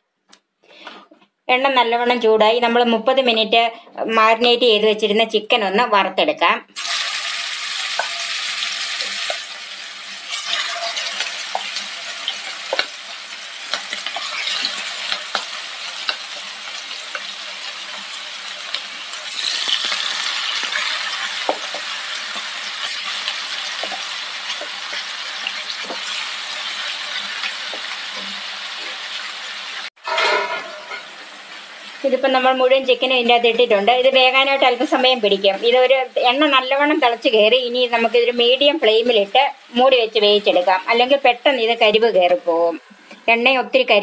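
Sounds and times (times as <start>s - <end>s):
chicken sizzling in oil: 6.8s - 43.4s.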